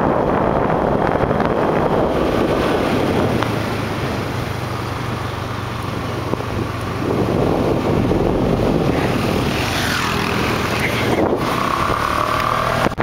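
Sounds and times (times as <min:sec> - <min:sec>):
motorbike engine hum: 0:00.0 - 0:13.0
wind rushing over microphone: 0:00.0 - 0:13.0.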